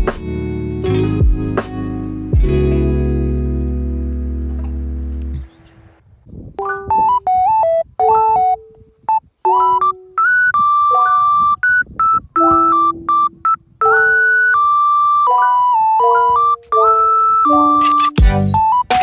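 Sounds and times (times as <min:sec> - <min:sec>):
synthesizer keyboard melody: 0:00.0 - 0:05.5, 0:06.6 - 0:19.0.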